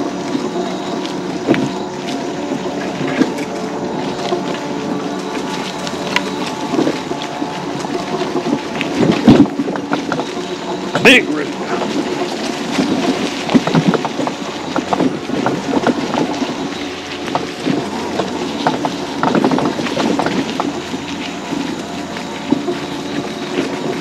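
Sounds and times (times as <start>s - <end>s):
mobility scooter motor hum: 0.0s - 24.0s
scooter rattling over ground: 0.0s - 24.0s.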